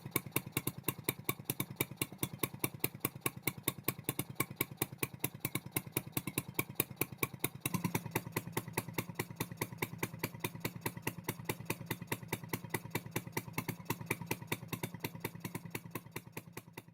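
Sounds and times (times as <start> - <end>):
two-stroke boat engine running: 0.0 - 16.9.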